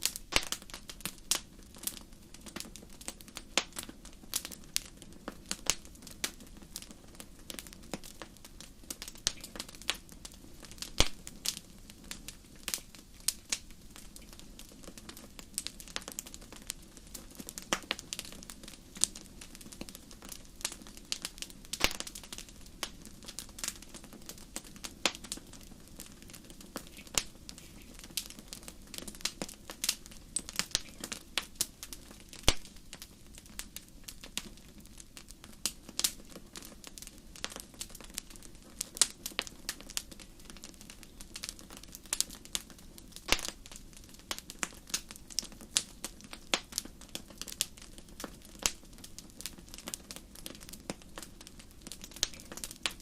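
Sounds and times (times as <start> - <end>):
wood fire crackling in fireplace: 0.0 - 53.0.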